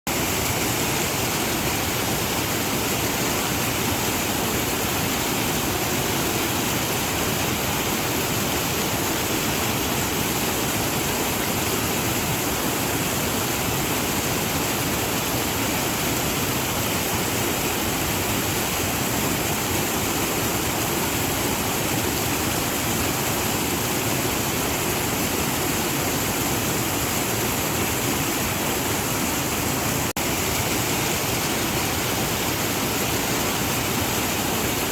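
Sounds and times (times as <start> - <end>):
waterfall roar: 0.1 - 34.9.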